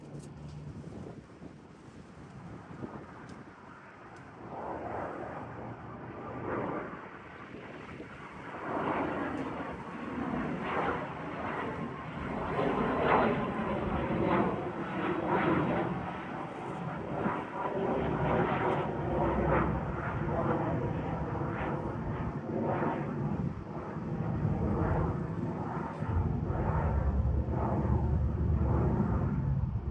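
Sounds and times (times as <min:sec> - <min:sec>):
jet engine roar: 0:01.8 - 0:29.9.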